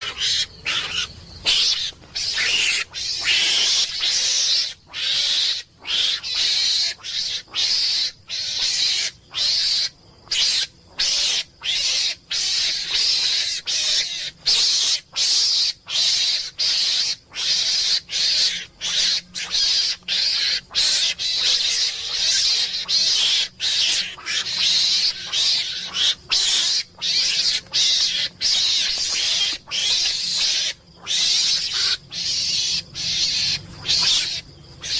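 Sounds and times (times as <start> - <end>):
animal hissing calls: 0.0 - 34.9.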